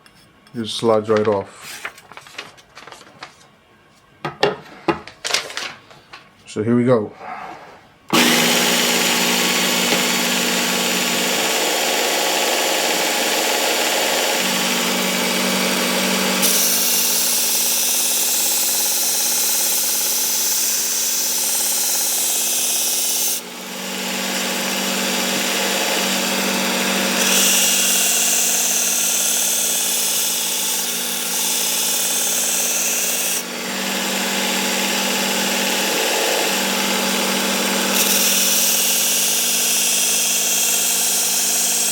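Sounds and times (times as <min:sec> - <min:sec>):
belt sharpener grinding blade: 0:08.1 - 0:41.9.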